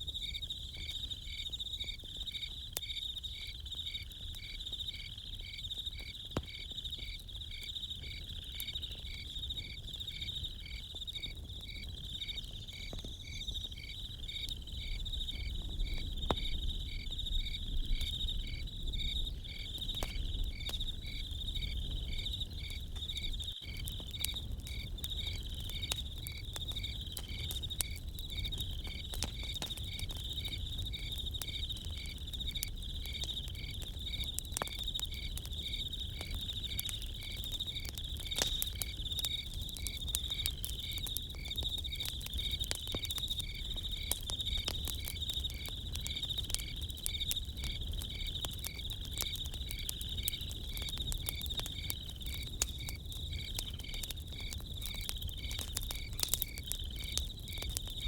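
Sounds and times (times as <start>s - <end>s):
campfire crackling: 0.0s - 58.0s
crickets and insects chirping: 0.0s - 58.0s.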